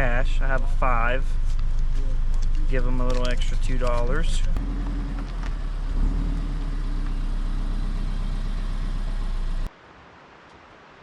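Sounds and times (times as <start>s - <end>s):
car engine running: 0.0s - 9.7s.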